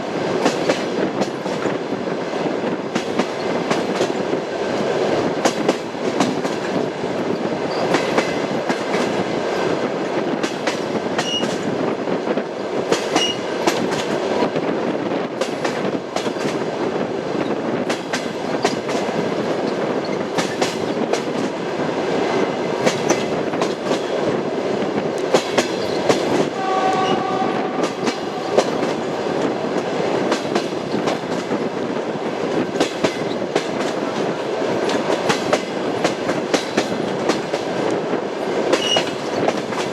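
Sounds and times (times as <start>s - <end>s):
train wheels clattering on track: 0.0s - 39.9s.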